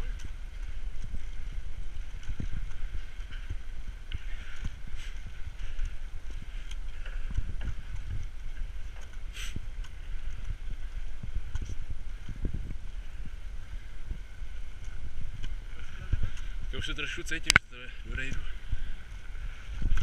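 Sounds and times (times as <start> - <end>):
bike clicks and rattles: 0.0 - 16.6
wind rumble on microphone: 0.0 - 20.0.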